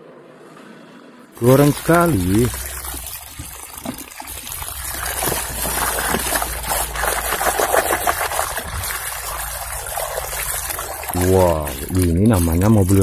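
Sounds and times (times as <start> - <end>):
splashing while scrubbing toys: 1.4 - 13.0
water running into a bucket: 1.4 - 13.0.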